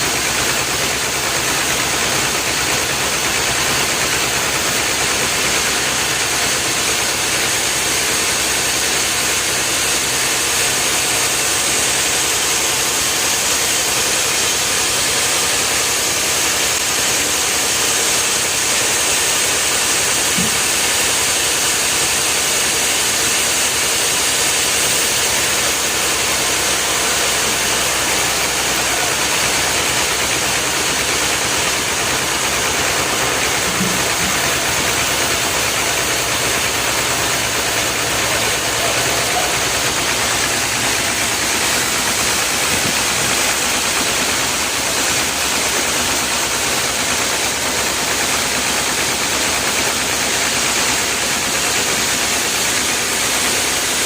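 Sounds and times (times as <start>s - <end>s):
machine noise with high hiss: 0.0s - 54.0s.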